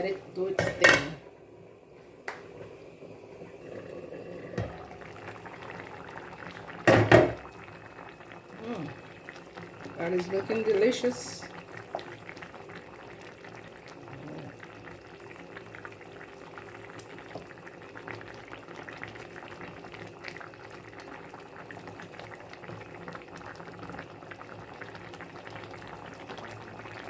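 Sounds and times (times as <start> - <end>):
sauce simmering and bubbling: 2.6 - 27.0.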